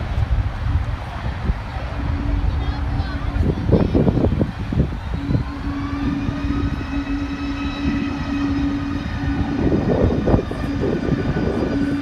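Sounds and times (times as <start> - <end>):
jet engines passing: 0.0 - 12.0.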